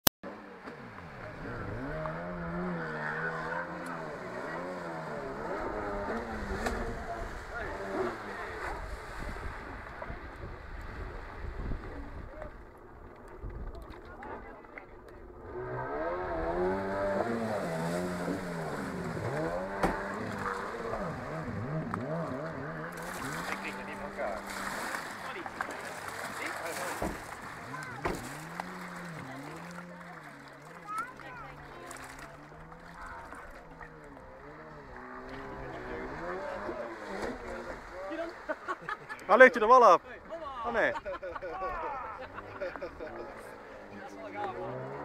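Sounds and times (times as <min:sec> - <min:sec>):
jet ski engine revving: 0:00.3 - 0:13.0, 0:13.9 - 0:45.0.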